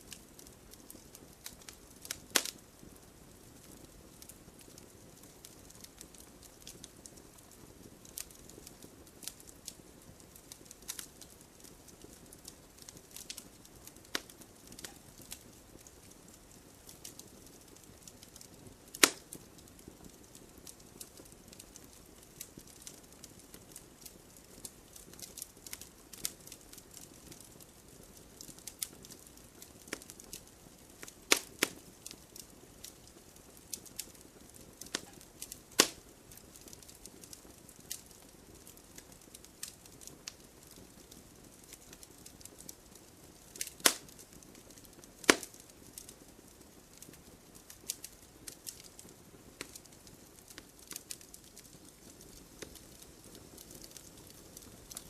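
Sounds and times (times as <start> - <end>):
campfire crackling: 0.0 - 55.0
faint steady hiss: 0.0 - 55.0
sharp pops from burning wood: 0.0 - 55.0.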